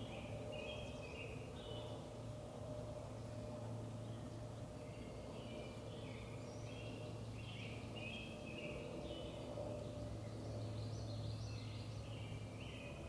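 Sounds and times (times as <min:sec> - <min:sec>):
low background hum: 0:00.0 - 0:13.0
songbirds chirping: 0:00.0 - 0:13.0.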